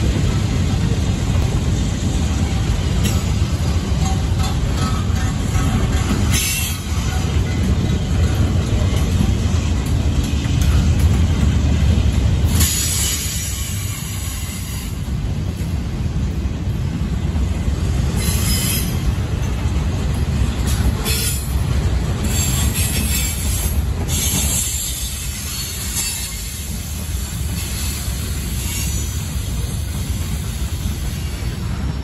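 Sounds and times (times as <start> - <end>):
rumble of wheels on rail: 0.0 - 32.0.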